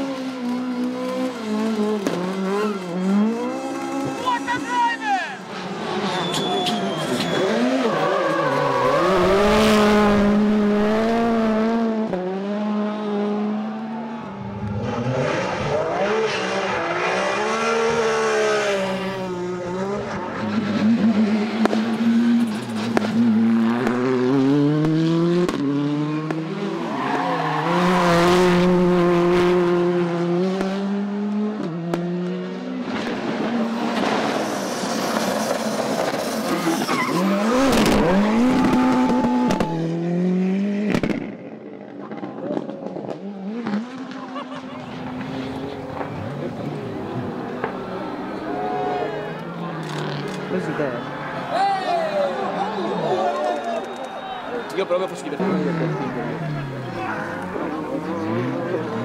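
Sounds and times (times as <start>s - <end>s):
rally cars revving past: 0.0s - 4.6s, 5.4s - 53.5s, 55.0s - 59.0s.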